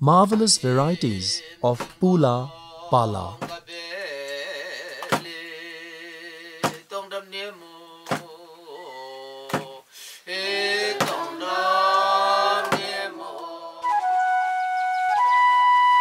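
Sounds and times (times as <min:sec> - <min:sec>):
group singing folk song in unison: 0:01.0 - 0:14.6.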